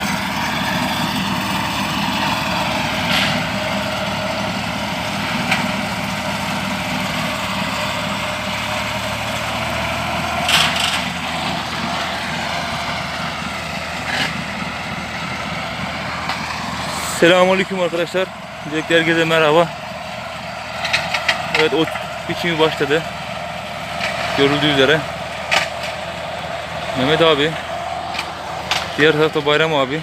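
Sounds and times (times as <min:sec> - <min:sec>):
mowing machine engines running: 0:00.0 - 0:30.0.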